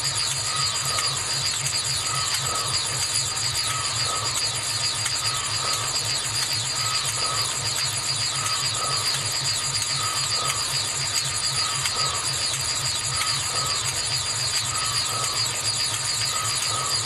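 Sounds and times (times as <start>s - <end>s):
low pulsing throb: 0.0s - 17.0s
fast high ticking: 0.2s - 17.0s.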